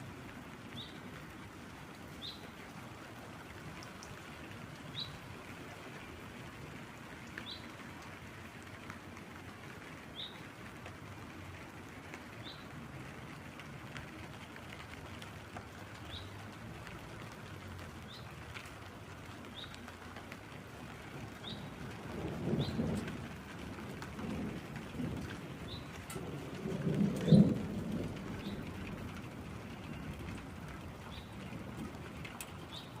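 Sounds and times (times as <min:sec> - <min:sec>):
light rain: 0:00.0 - 0:33.0
water dripping: 0:00.1 - 0:33.0.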